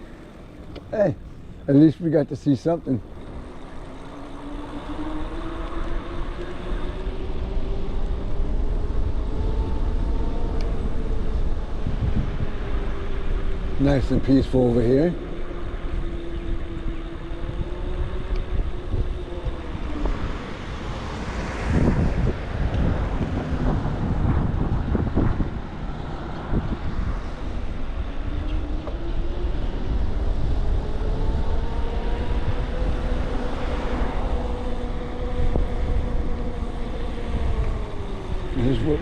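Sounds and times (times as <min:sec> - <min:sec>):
wind buffeting microphone: 0:00.0 - 0:39.0
electric motor whine: 0:03.1 - 0:39.0.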